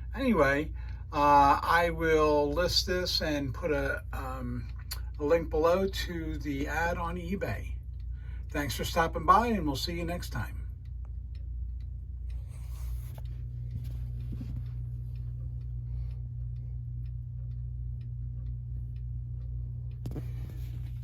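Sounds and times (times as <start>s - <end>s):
steady low hum: 0.0s - 21.0s
mechanical clock ticking: 0.1s - 21.0s.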